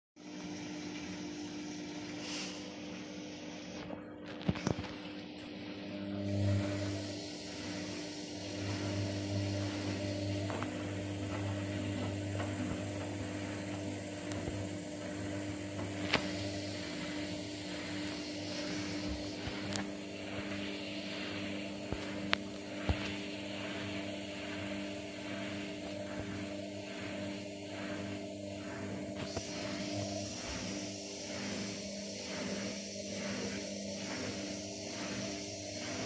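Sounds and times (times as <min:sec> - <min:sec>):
washing machine motor hum: 0:00.2 - 0:36.0.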